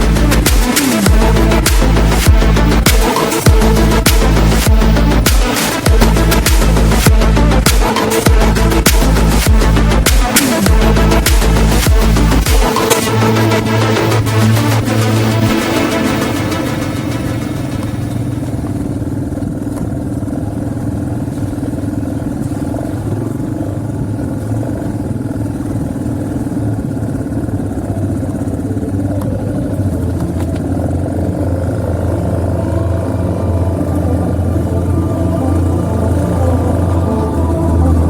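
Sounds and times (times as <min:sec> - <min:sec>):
motocross bike engine running: 0:00.0 - 0:38.0.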